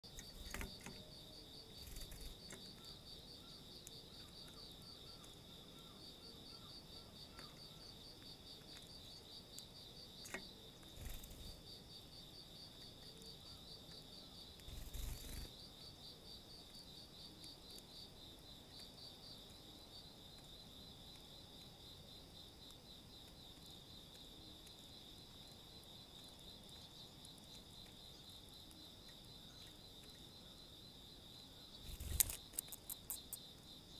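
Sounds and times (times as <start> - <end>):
insect chirring: 0.0 - 33.9.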